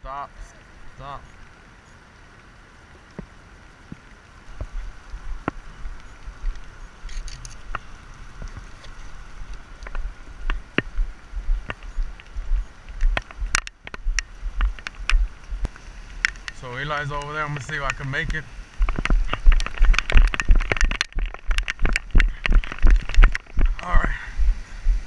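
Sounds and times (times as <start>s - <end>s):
rain hiss: 0.0s - 25.0s
raindrops tapping on camera housing: 3.0s - 24.2s
camera jostling rumble: 4.5s - 25.0s.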